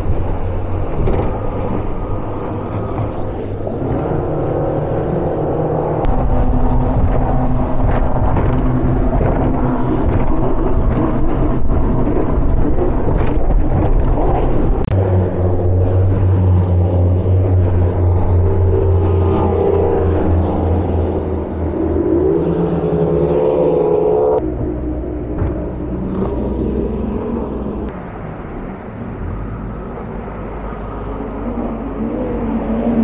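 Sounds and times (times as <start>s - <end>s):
powerboat outboard engines: 0.0s - 33.0s
rush of wind and water: 0.0s - 33.0s.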